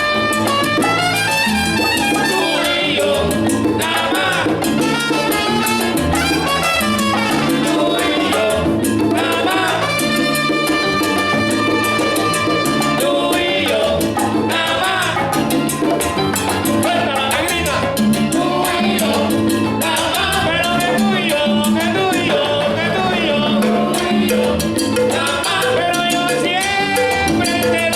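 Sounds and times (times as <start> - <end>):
salsa band playing live: 0.0 - 27.9.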